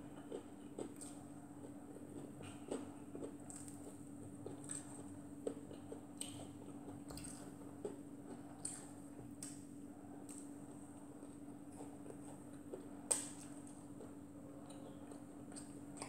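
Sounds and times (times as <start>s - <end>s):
steady hum: 0.0s - 16.0s
chewing and mouth noises: 0.1s - 16.0s.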